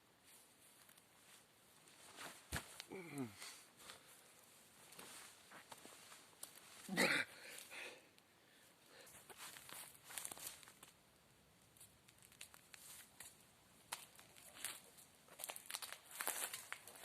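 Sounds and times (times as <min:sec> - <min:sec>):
faint rustling and crackling: 0:00.2 - 0:07.8, 0:08.5 - 0:11.0, 0:11.6 - 0:17.0.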